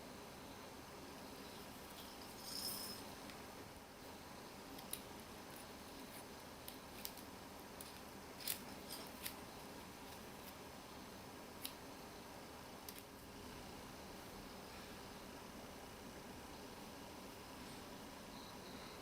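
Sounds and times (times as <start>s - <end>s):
low steady hiss: 0.0s - 19.0s.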